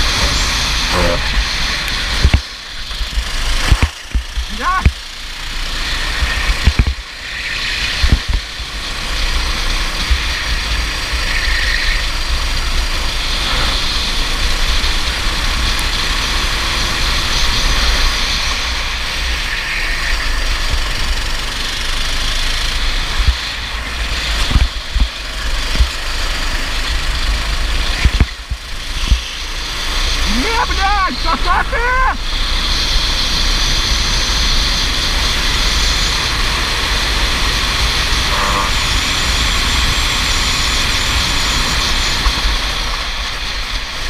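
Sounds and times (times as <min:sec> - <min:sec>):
racing kart engine: 0:00.0 - 0:44.0.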